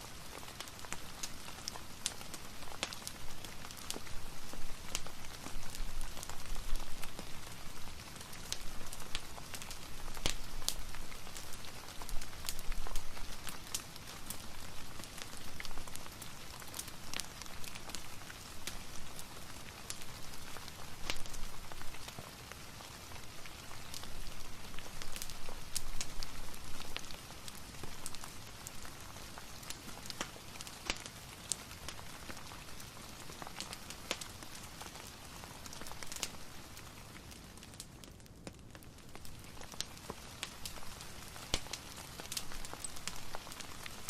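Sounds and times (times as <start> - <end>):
soft steady rain: 0.0 - 44.0.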